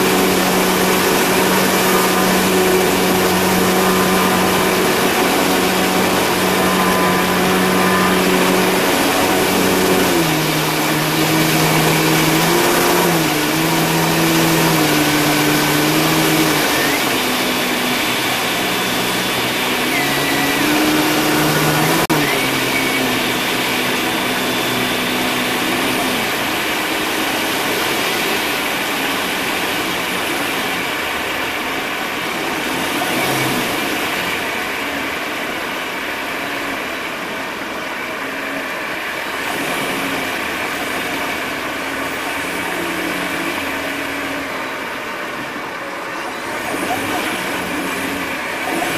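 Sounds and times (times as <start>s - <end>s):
propeller plane engine: 0.0s - 48.9s.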